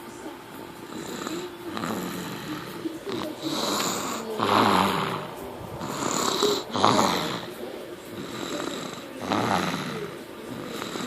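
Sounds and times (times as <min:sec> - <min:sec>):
baby snoring: 0:00.8 - 0:11.0.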